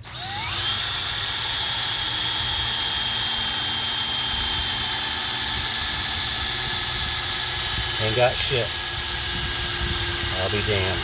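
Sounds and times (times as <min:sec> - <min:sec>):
cordless drill whining: 0:00.0 - 0:11.0.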